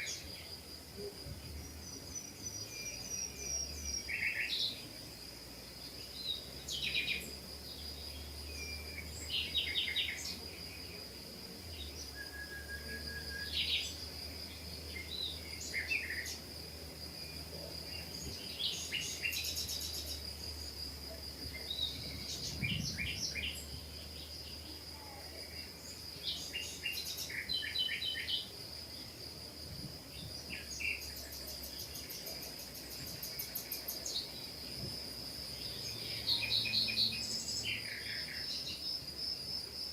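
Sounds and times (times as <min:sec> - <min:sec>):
small birds chirping: 0:00.0 - 0:28.6, 0:30.1 - 0:34.7.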